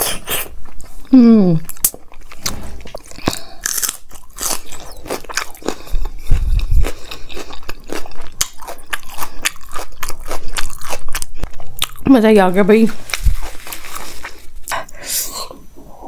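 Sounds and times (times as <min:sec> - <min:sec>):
person chewing: 0:00.0 - 0:12.1, 0:13.0 - 0:15.6.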